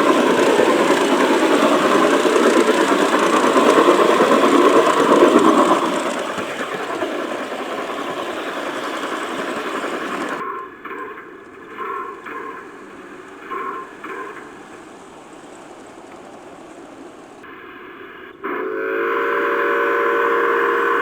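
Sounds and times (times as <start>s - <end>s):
model train wheels rattling on rail: 0.0s - 17.5s
model train motor hum: 0.0s - 21.0s.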